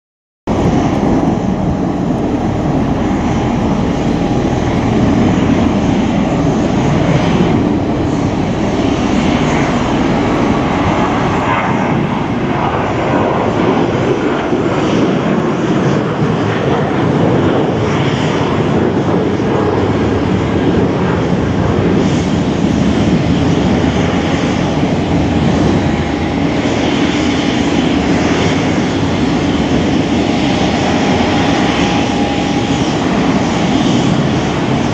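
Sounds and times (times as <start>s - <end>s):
aircraft engines deep rumble: 0.5s - 34.9s.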